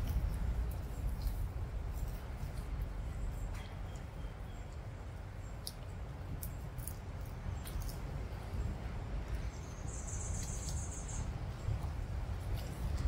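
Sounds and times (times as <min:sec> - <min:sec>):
steady low rumble: 0:00.0 - 0:13.0
tortoises chewing grass: 0:00.0 - 0:13.0.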